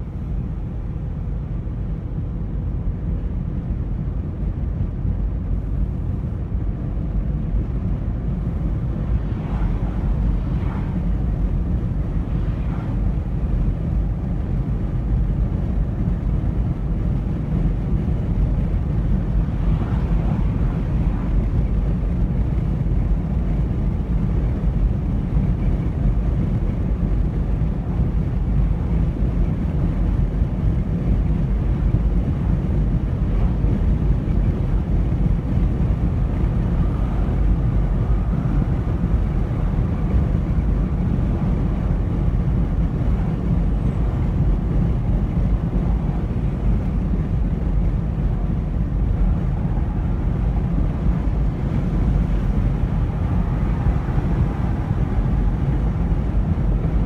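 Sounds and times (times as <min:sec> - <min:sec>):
car road noise at speed: 0:00.0 - 0:57.0.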